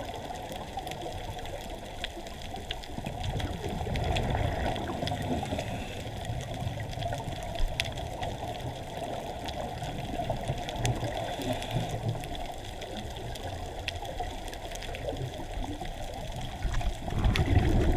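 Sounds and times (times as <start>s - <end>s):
faint underwater clicks: 0.0s - 17.9s
muffled underwater rush: 0.0s - 17.9s.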